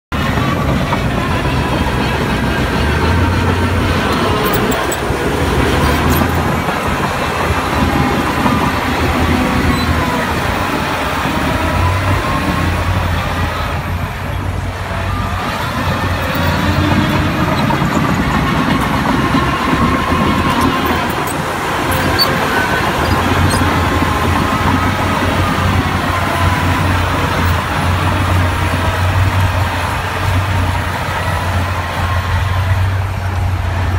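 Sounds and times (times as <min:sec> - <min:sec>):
bulldozer diesel engine: 0:00.1 - 0:33.9
steel tracks rattling and squealing: 0:00.2 - 0:33.9.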